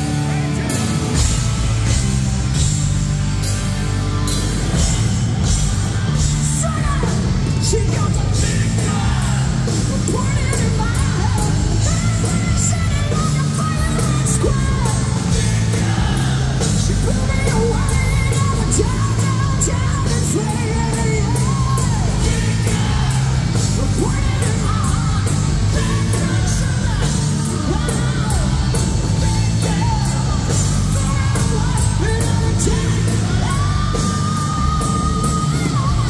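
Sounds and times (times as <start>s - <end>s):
hard rock band playing: 0.0s - 36.0s.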